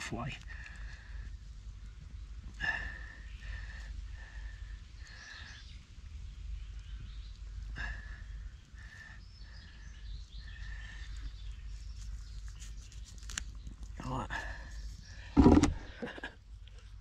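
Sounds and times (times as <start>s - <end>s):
light crackles: 0.0s - 17.0s.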